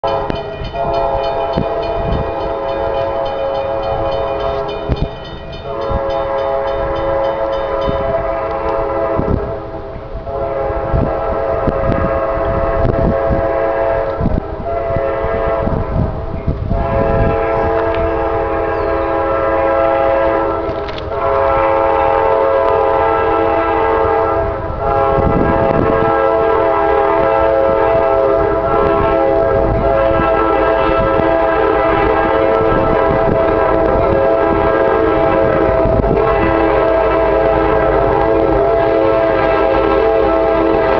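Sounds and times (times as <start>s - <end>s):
locomotive horn blasts: 0.0s - 40.9s.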